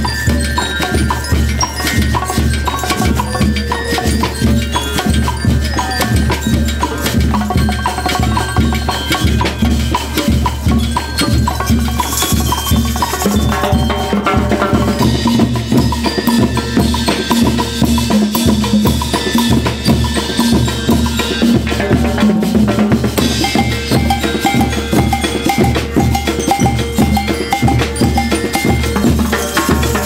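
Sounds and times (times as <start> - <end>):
drums keeping dance beat: 0.0 - 30.0
pitched melody: 0.0 - 30.0.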